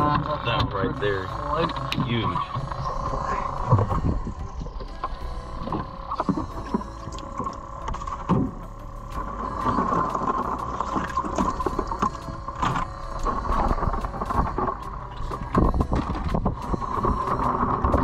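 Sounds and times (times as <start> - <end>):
aerator pump humming: 0.0 - 18.0.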